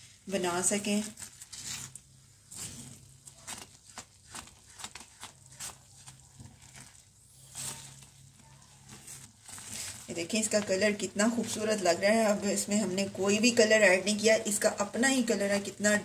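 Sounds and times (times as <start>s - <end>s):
jam boiling with soft plops: 0.0s - 16.0s.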